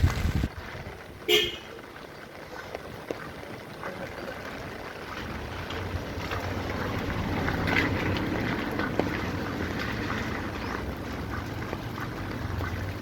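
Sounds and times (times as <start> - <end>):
heavy rain falling: 0.0 - 11.2
vehicle engine running: 0.0 - 13.0.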